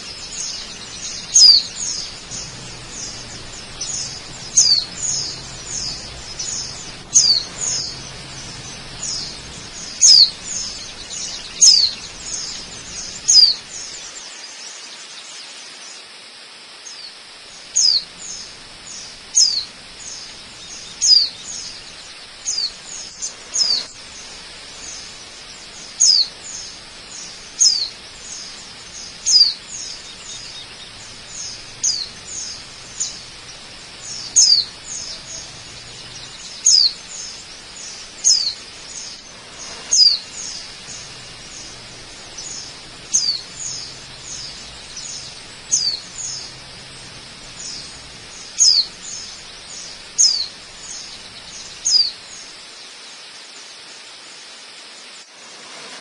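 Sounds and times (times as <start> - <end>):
bird high downward call: 0.0 - 14.2, 17.8 - 52.6
waterfall rushing: 0.0 - 56.0.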